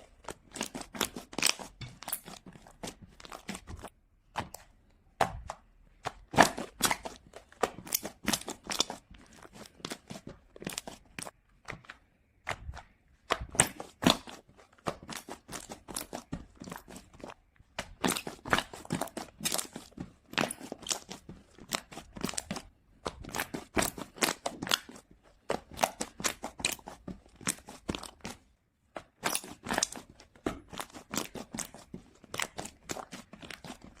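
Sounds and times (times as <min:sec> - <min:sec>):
foam slime crunching and popping: 0:00.1 - 0:03.9, 0:06.1 - 0:11.4, 0:13.3 - 0:28.4, 0:29.1 - 0:34.0.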